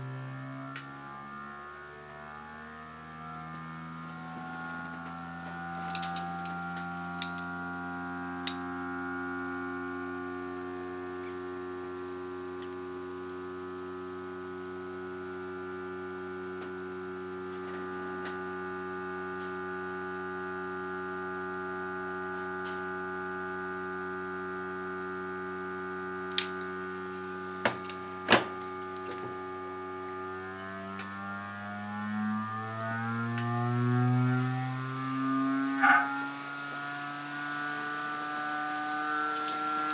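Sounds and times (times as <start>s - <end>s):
generator humming: 0.0s - 39.9s.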